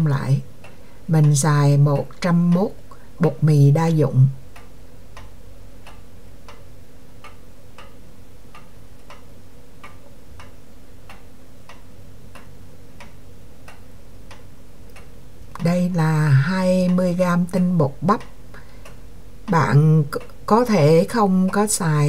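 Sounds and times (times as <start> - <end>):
faint steady hum: 0.0 - 22.0
steady ticking: 0.0 - 22.0.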